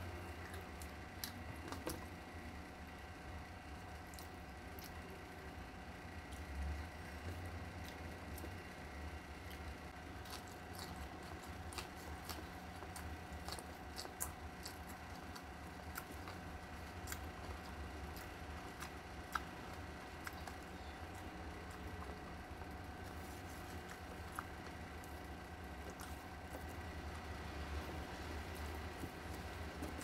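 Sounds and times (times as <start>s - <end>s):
person chewing food: 0.0s - 2.3s, 3.8s - 30.0s
steady low hum: 0.0s - 30.0s.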